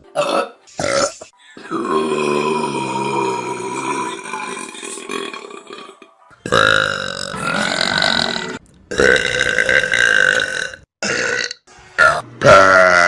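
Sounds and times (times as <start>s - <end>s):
burping: 0.2s - 13.0s.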